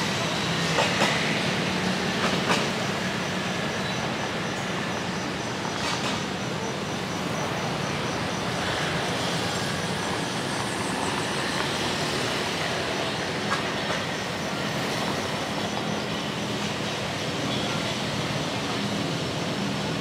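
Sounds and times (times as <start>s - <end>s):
motorbikes and scooters passing: 0.0s - 20.0s.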